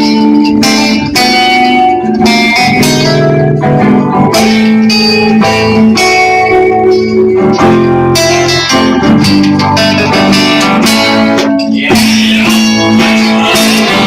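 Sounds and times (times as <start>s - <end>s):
band playing with guitar: 0.0s - 14.0s.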